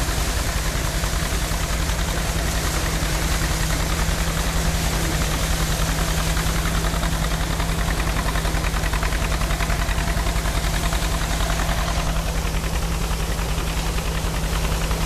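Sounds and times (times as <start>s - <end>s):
harvester humming and pulsing: 0.0s - 15.0s.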